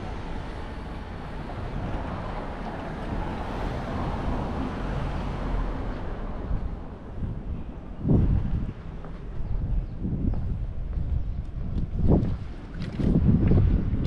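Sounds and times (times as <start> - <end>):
street noise with low rumble: 0.0 - 14.0.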